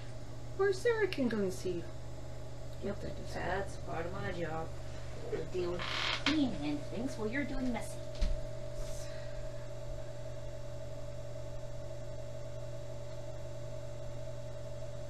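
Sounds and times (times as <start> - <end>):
potter's wheel motor humming: 0.0 - 15.0.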